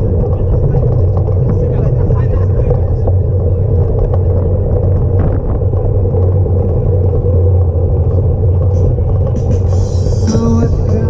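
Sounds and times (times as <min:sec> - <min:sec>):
bicycle rumbling over paving slabs: 0:00.0 - 0:11.0.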